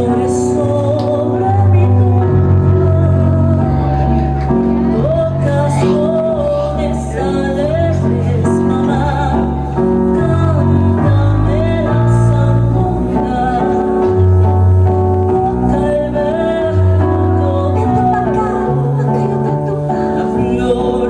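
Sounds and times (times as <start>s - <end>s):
held bass notes: 0.0s - 21.0s
person singing: 0.0s - 21.0s.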